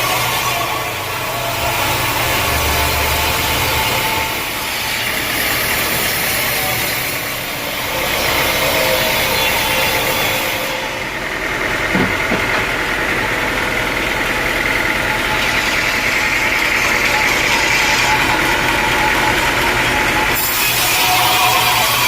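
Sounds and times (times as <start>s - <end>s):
sawmill machinery humming: 0.0s - 22.0s.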